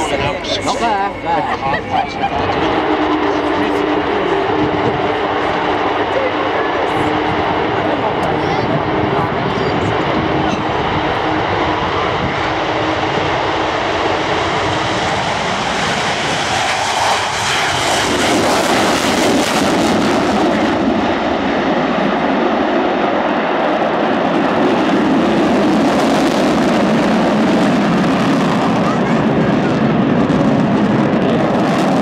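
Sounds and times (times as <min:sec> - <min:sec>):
jet aircraft taking off: 0:00.0 - 0:32.0.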